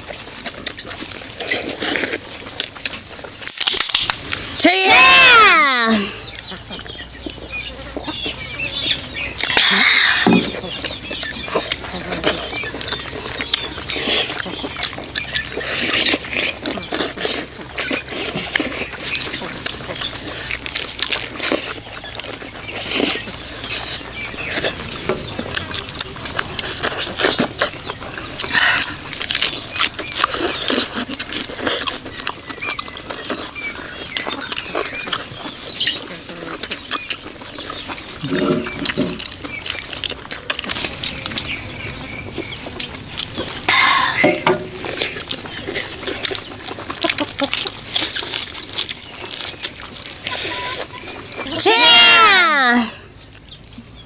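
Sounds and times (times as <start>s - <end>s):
chewing and smacking: 0.0s - 4.9s, 6.0s - 52.0s, 53.1s - 54.0s.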